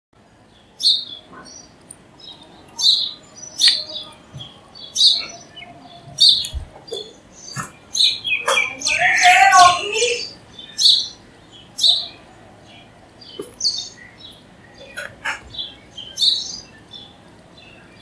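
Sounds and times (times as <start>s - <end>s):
sparrow chirping: 0.4s - 18.0s.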